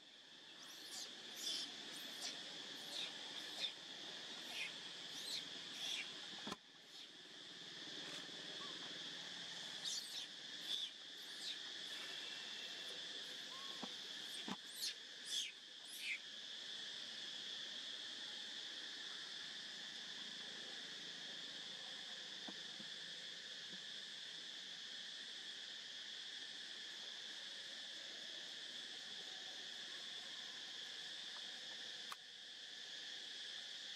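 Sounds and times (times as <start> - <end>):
high-pitched insect drone: 0.0 - 33.9.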